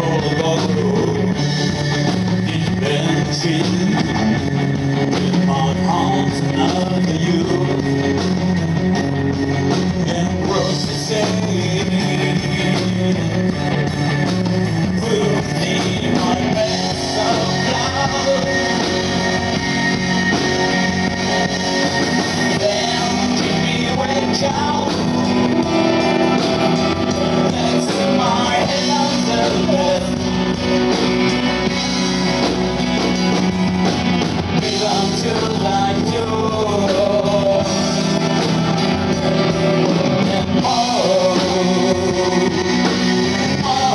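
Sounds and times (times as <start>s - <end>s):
man singing: 0.0s - 8.5s, 9.7s - 14.0s, 14.7s - 31.8s, 34.6s - 43.9s
bass guitar: 0.0s - 43.9s
electric guitar: 0.0s - 43.9s.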